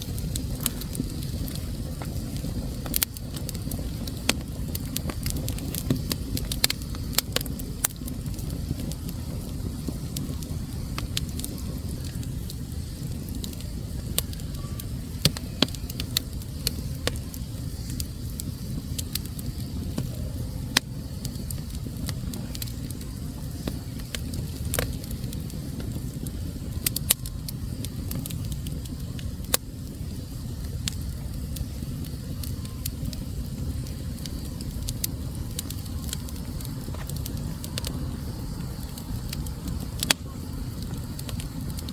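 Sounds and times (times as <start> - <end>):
fire crackles and pops: 0.0 - 41.9
wood fire rumbling: 0.0 - 41.9.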